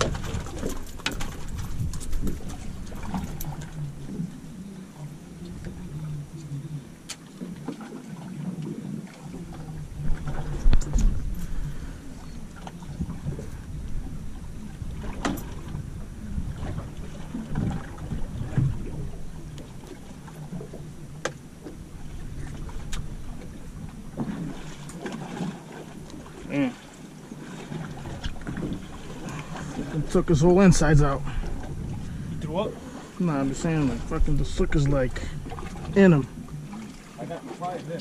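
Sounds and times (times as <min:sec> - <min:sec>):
wind rumbling on microphone: 0:00.0 - 0:07.1, 0:08.3 - 0:26.8, 0:27.4 - 0:37.1.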